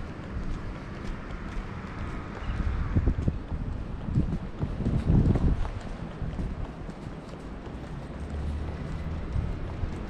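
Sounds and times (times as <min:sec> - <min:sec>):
footsteps on pavement: 0:00.0 - 0:10.0
wind rumble on microphone: 0:00.0 - 0:10.0.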